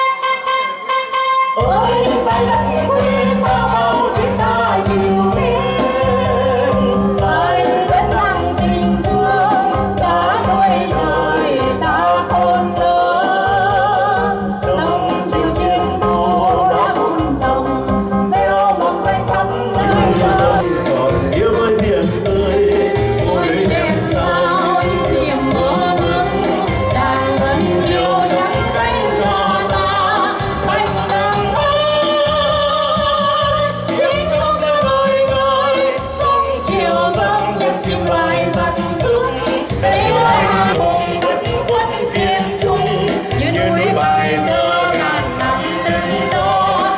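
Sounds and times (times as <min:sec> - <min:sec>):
backing track with steady beat: 0:00.0 - 0:46.9
person singing with vibrato: 0:00.0 - 0:46.9.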